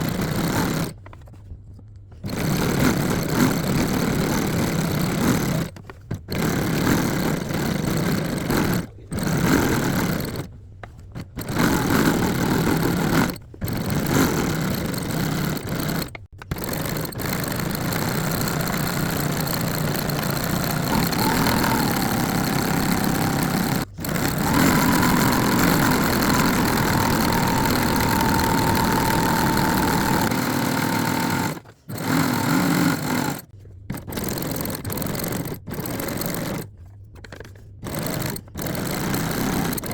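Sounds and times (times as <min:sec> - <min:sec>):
sewing machine stitching: 0:00.0 - 0:01.2, 0:02.2 - 0:36.7, 0:37.3 - 0:39.9.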